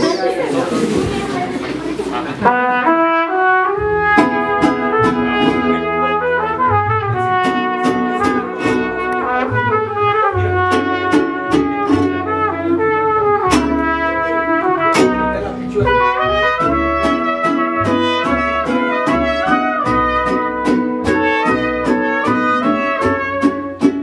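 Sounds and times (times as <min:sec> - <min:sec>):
mariachi band playing: 0:00.0 - 0:24.0
trumpets playing melody: 0:02.4 - 0:24.0.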